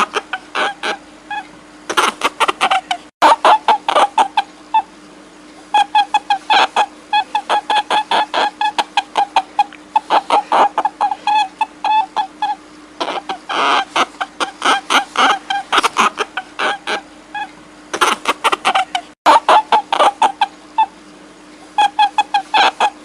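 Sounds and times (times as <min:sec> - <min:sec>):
high-pitched animal cries: 0:00.0 - 0:04.9, 0:05.7 - 0:21.0, 0:21.7 - 0:23.0
steady low hum: 0:00.0 - 0:23.0.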